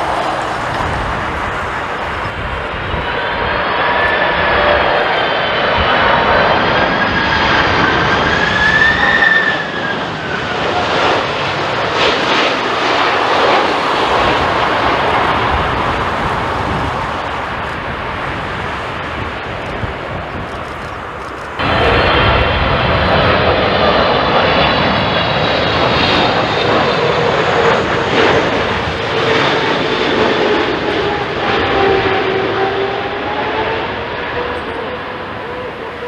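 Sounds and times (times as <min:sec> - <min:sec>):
jet airliner flying past: 0:00.0 - 0:36.0.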